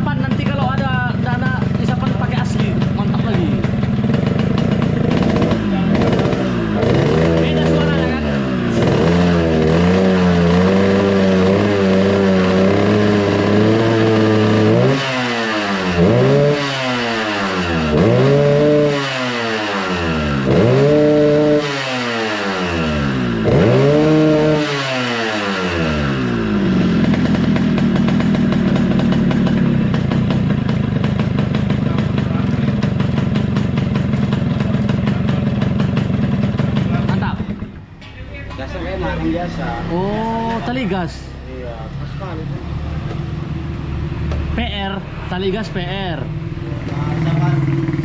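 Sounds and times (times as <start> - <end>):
two-stroke motorcycle engine revving: 0.0 - 48.0.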